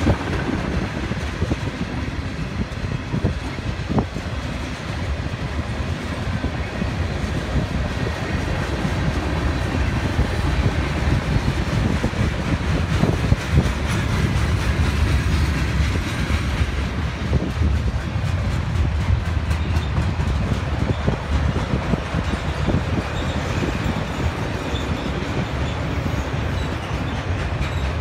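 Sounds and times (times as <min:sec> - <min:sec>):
freight train rolling past: 0:00.0 - 0:28.0
wheels clickety-clack: 0:00.0 - 0:28.0.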